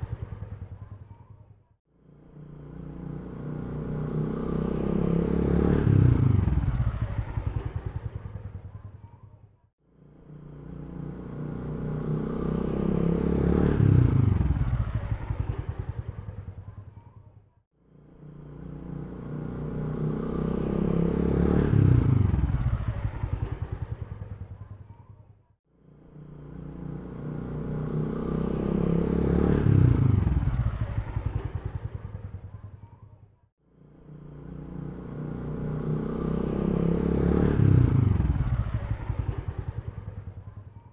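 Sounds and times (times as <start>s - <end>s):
motorcycle passing by: 0.0s - 40.9s.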